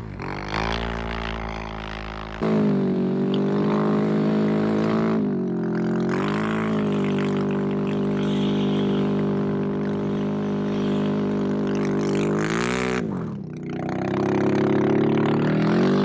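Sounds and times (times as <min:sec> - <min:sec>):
atv engine at high revs: 0:00.0 - 0:16.0.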